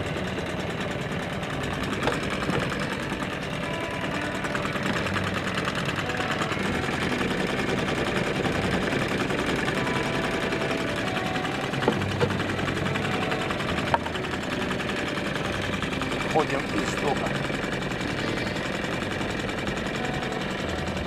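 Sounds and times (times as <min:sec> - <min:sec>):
outboard motor buzzing: 0:00.0 - 0:21.0.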